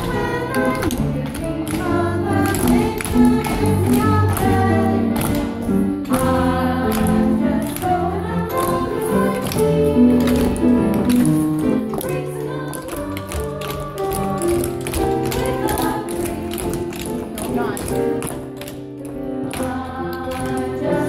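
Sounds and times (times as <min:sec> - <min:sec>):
group singing over music: 0:00.0 - 0:11.2, 0:11.8 - 0:17.0, 0:19.4 - 0:21.0
high heels tapping on wooden stage: 0:00.0 - 0:20.8.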